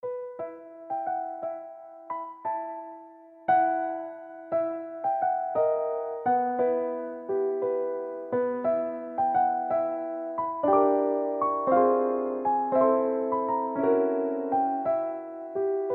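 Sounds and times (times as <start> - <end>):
gentle electric piano melody: 0.0 - 15.9.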